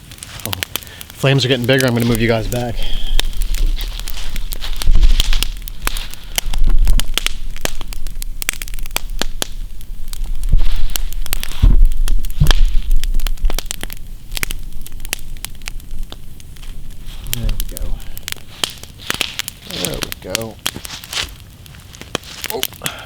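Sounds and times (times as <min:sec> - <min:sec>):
low rumbles: 0:00.0 - 0:22.2
campfire crackling: 0:00.0 - 0:23.0.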